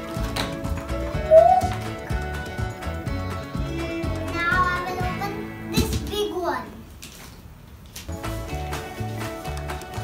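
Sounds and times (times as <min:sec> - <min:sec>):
background music with steady beat: 0:00.0 - 0:06.3, 0:08.1 - 0:10.0.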